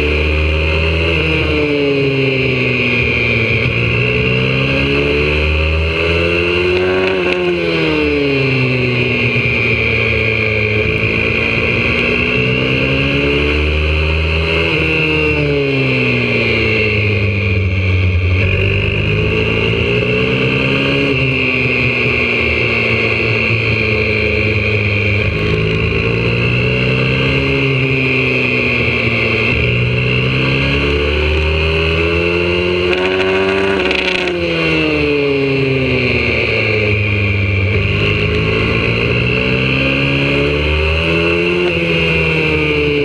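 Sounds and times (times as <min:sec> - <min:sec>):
motorbike engine revving: 0:00.0 - 0:43.0.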